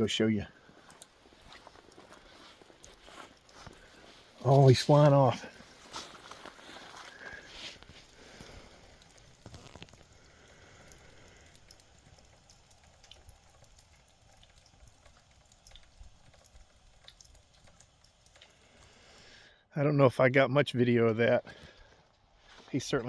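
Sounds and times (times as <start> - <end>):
soft ticks and rustles: 0.0 - 19.4.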